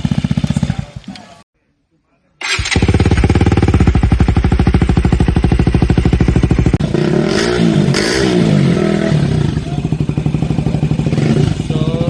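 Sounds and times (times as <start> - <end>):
motorcycle engine exhaust beat: 0.0 - 1.3, 2.8 - 12.0.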